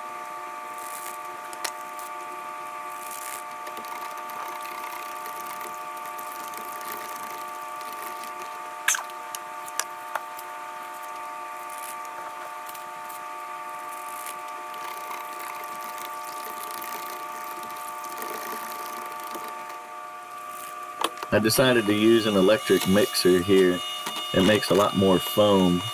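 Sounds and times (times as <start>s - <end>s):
steady machine hum: 0.0s - 25.9s.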